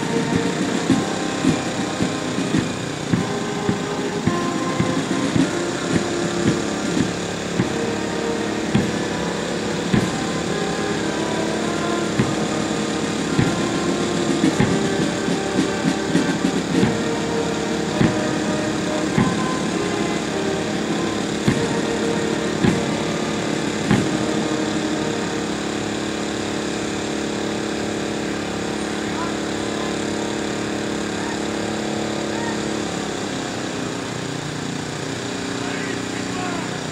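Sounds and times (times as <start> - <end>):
engine humming: 0.0 - 36.9
steady machinery drone: 0.0 - 36.9.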